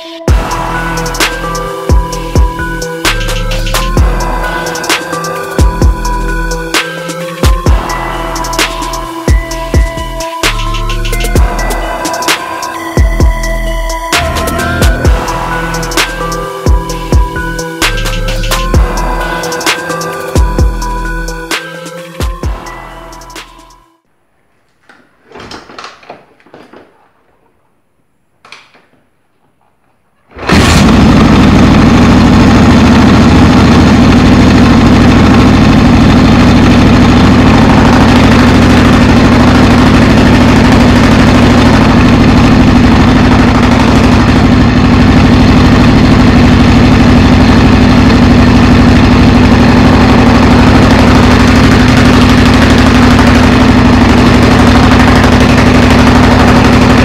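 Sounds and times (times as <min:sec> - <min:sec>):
motorcycle engine running loudly: 0:00.3 - 0:23.8, 0:30.4 - 0:57.0.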